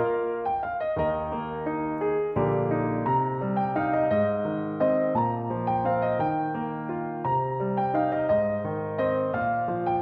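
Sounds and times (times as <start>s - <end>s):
piano tune over held low notes: 0.0s - 10.0s.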